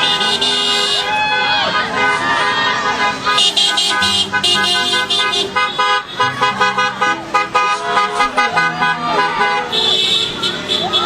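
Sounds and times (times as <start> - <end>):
car horns honking: 0.0 - 11.0.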